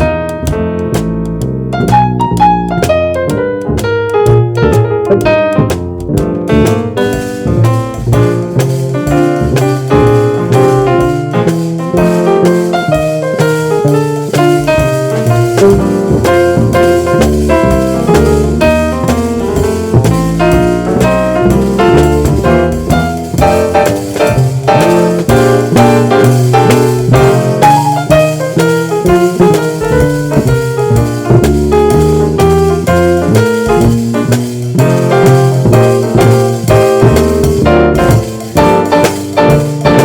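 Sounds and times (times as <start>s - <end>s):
bass line: 0.0s - 40.0s
drum kit: 0.0s - 40.0s.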